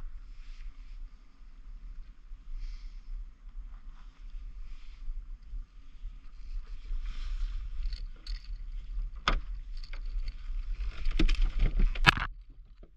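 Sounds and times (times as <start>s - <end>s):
low steady rumble: 0.0s - 12.9s.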